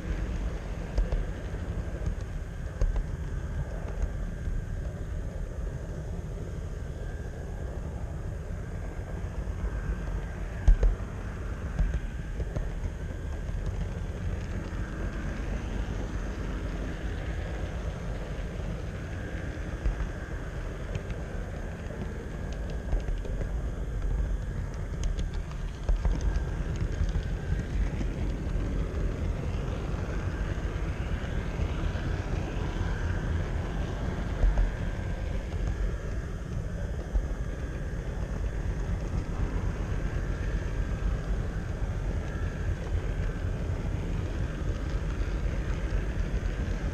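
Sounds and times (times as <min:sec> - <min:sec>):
faint wavering whine: 0:00.0 - 0:46.9
model train wheels rumbling: 0:09.0 - 0:46.9.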